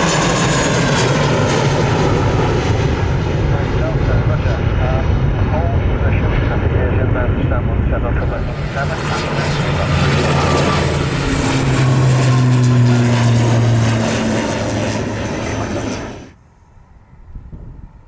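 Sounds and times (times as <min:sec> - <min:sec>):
jet airliner engine noise: 0:00.0 - 0:18.0.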